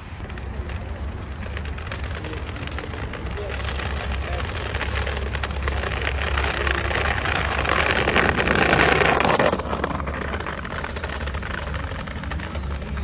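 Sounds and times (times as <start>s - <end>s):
scooter wheels rolling over paving: 0.0s - 13.0s.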